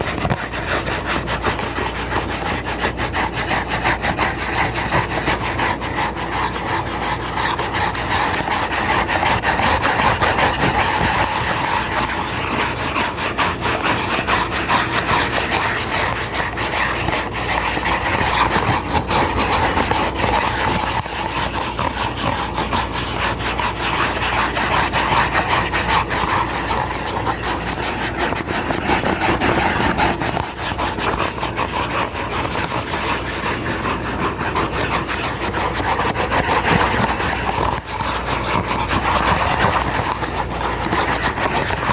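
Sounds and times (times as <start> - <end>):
scratching and rubbing: 0.0 - 41.9.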